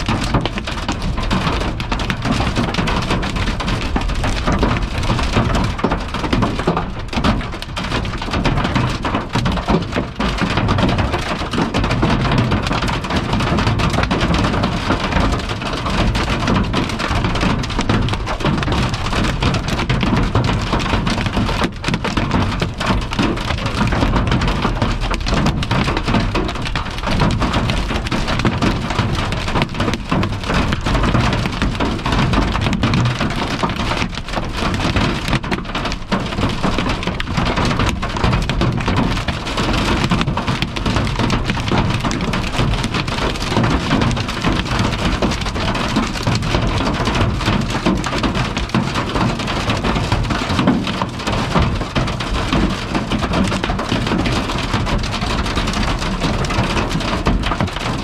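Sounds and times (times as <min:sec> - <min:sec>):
hail and rain on car roof: 0:00.0 - 0:58.0.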